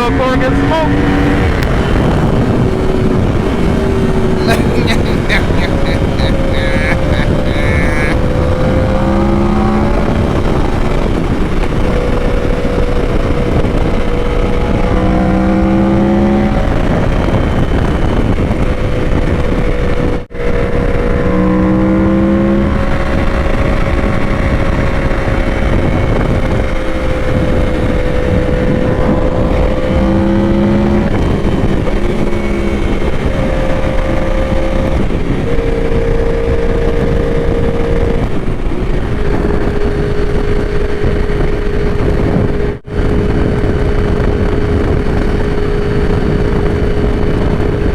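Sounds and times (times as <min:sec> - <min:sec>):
motorcycle engine cruising: 0:00.0 - 0:47.9
wind rush: 0:00.0 - 0:47.9.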